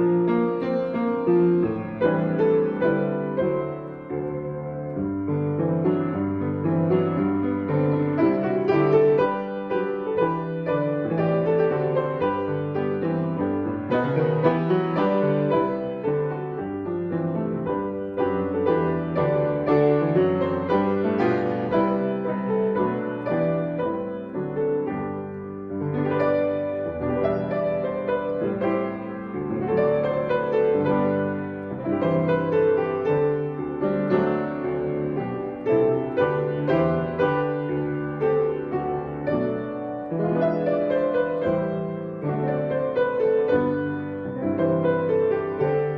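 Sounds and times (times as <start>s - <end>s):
piano playing sustained chords: 0.0s - 45.9s.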